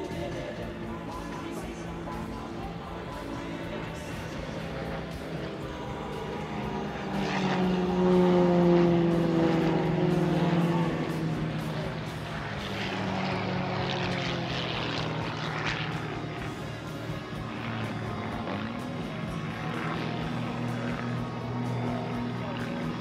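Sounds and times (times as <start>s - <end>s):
propeller plane engine droning: 0.0s - 23.0s.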